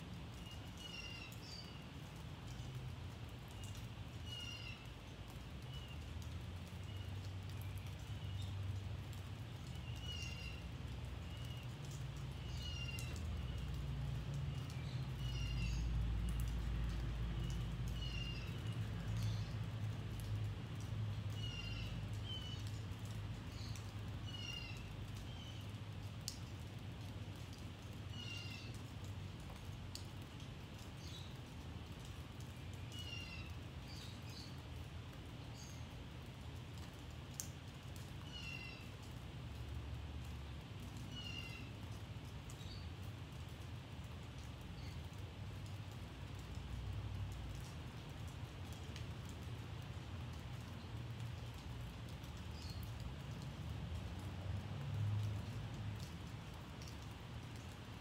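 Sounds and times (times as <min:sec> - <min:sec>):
light rain: 0:00.0 - 0:58.0
water dripping from roof: 0:00.0 - 0:58.0.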